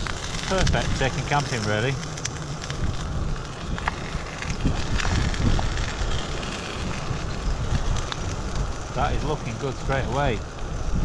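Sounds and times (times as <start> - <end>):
fish sizzling in a frying pan: 0.0 - 11.0
steady low rumble: 0.0 - 11.0.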